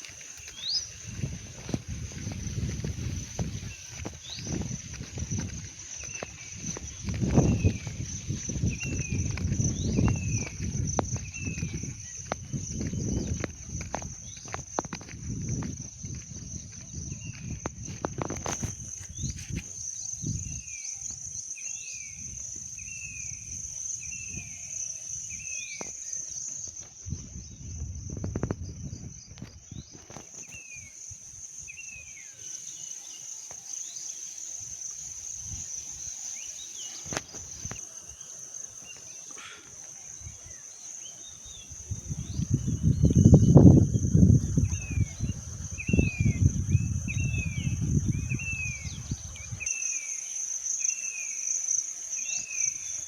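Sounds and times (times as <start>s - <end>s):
insect drone: 0.0s - 53.0s.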